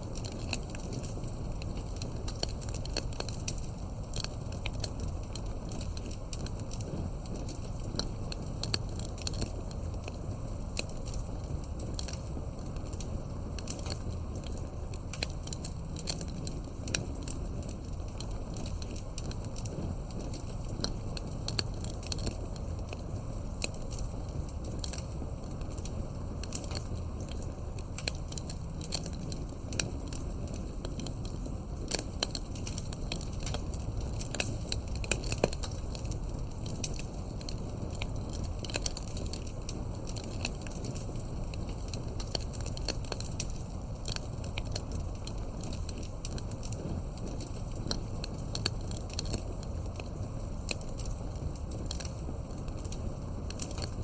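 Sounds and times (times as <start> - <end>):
burning wood crackling and popping: 0.0 - 54.0
campfire low rumble: 0.0 - 54.0.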